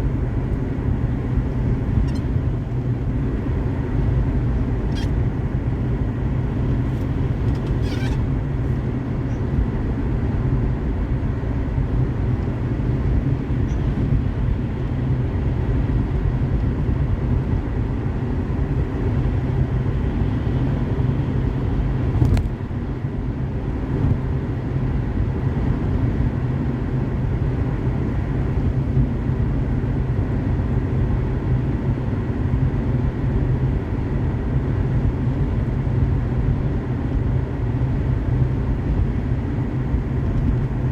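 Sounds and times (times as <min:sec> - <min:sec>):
tyres and engine rumble: 0:00.0 - 0:40.9.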